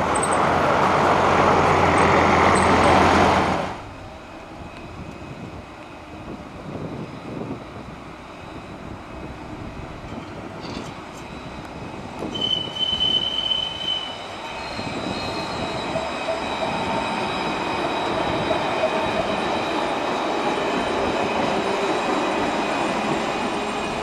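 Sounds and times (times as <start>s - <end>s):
tram wheel squeal: 0.0s - 3.7s, 4.5s - 24.0s
tram rolling rumble: 0.0s - 24.0s.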